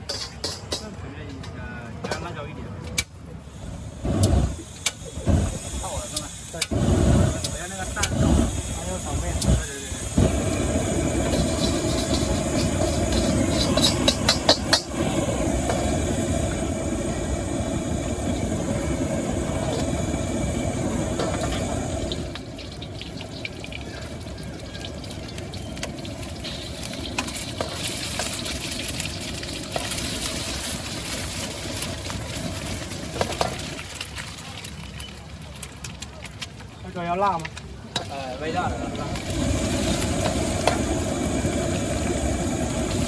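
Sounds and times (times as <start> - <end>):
burner and frying rush: 0.0 - 1.0, 3.0 - 43.0
sizzling: 0.0 - 1.0, 3.0 - 43.0.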